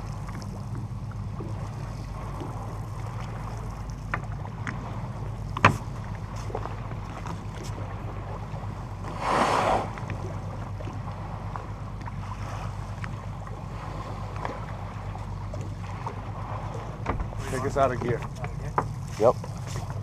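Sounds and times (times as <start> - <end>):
boat engine humming: 0.0 - 20.0
water around hull: 0.0 - 20.0.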